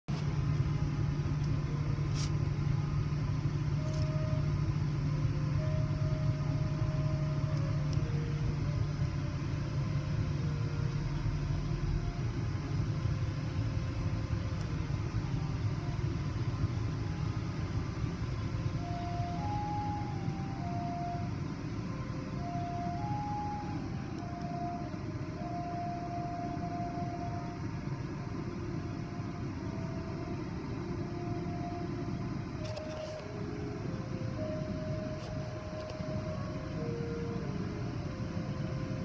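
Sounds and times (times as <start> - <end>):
car idling heard from cabin: 0.0 - 39.0.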